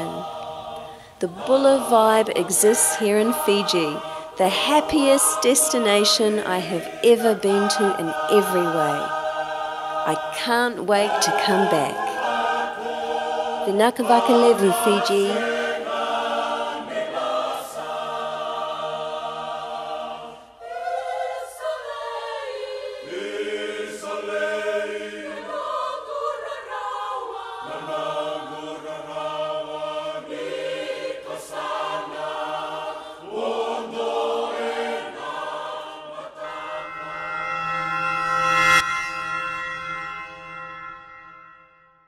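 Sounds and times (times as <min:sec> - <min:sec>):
choir singing in harmony: 0:00.0 - 0:41.6.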